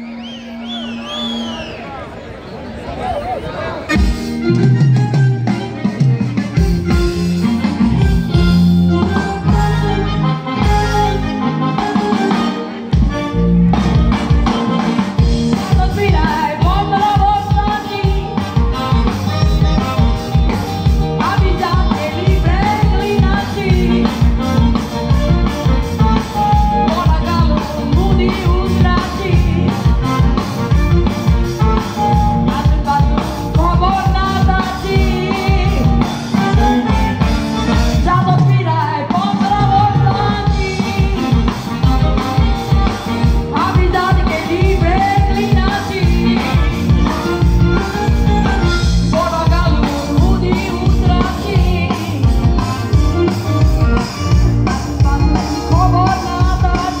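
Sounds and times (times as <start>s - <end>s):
live band music: 0.0s - 1.8s, 3.5s - 57.0s
woman singing lead: 7.4s - 13.0s, 15.2s - 57.0s.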